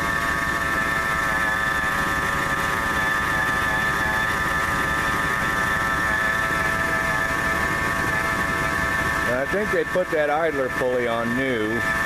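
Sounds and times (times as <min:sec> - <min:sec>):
belt drive whine: 0:00.0 - 0:12.0.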